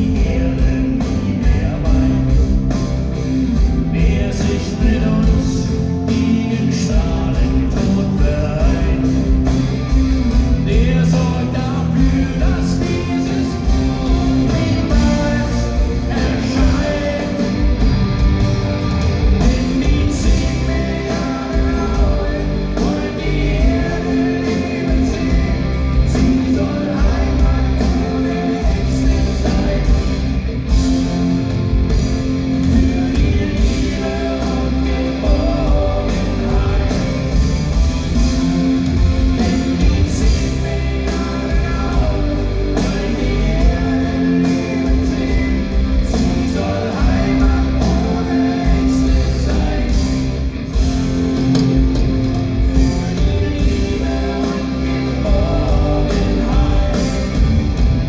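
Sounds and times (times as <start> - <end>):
man singing lead vocal: 0.0 - 18.4, 19.3 - 31.1, 31.9 - 51.6, 52.6 - 58.0
drums: 0.0 - 58.0
electric guitars: 0.0 - 58.0.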